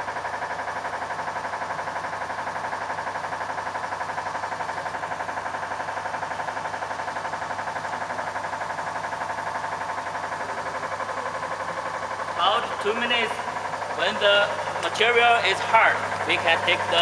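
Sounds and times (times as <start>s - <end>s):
vacuum pump pulsing: 0.0s - 17.0s.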